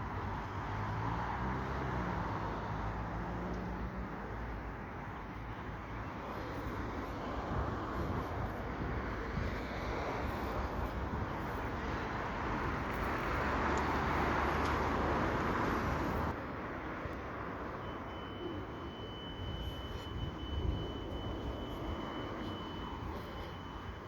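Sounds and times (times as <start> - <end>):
passing vehicles rushing: 0.0 - 24.0.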